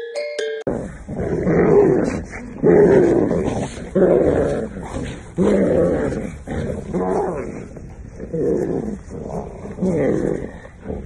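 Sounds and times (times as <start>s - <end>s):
dog growling in play: 0.7s - 11.0s.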